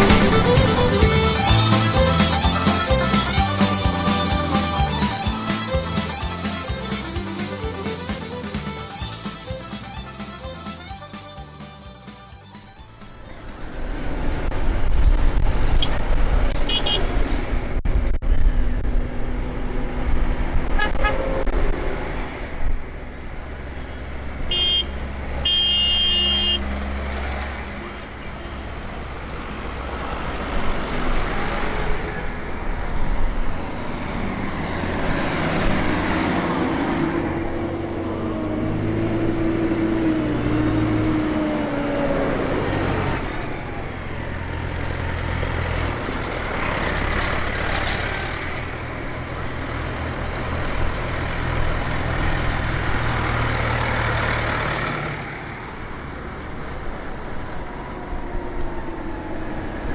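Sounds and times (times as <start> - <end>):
tractor engines droning: 0.0 - 59.9.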